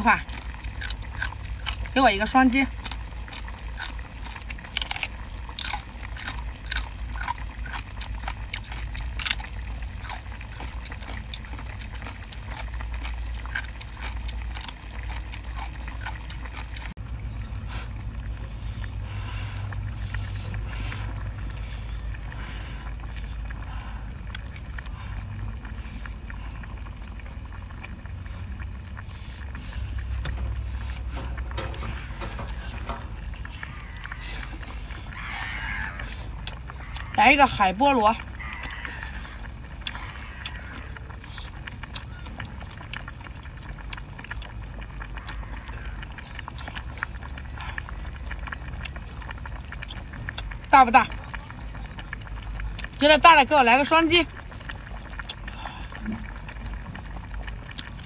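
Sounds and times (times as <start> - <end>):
chewing seafood: 0.0 - 58.0.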